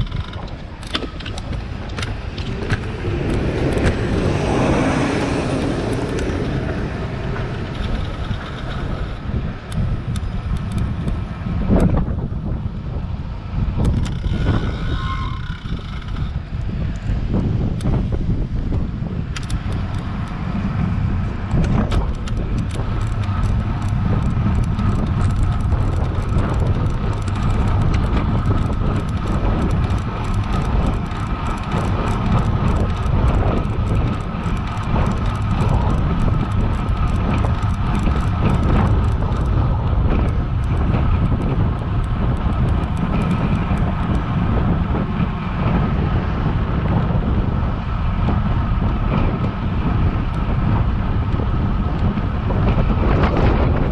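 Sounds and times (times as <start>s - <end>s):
low road rumble: 0.0s - 53.9s
rapid bicycle clicks: 0.0s - 53.9s
wind rushing over microphone: 0.0s - 53.9s.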